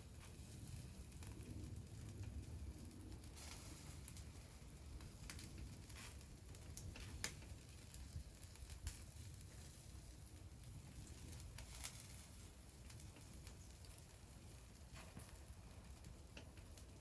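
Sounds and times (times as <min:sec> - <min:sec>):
faint clicks and crackles: 0:00.0 - 0:17.0
low steady rumble: 0:00.0 - 0:17.0.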